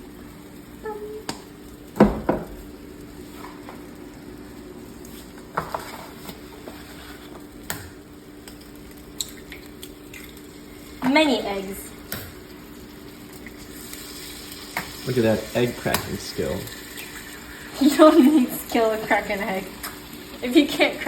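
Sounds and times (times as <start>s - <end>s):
oil sizzling in a frying pan: 0.0s - 21.0s.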